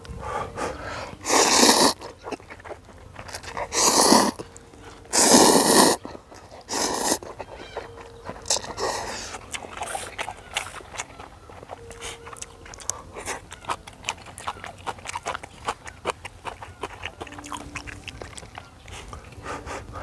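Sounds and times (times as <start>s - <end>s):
soft eating sounds: 0.0s - 20.0s
noodles slurped loudly: 1.2s - 19.4s.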